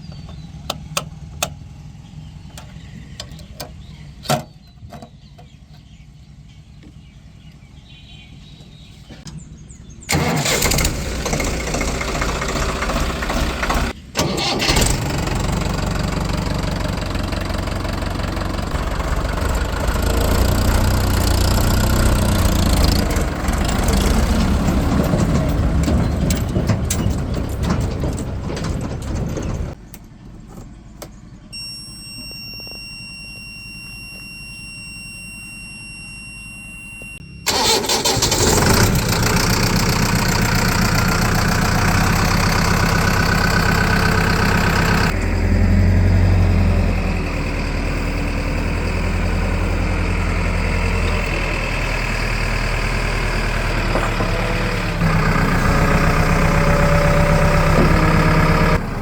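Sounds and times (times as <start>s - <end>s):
vehicle engine running: 0.0s - 31.4s, 37.4s - 59.0s.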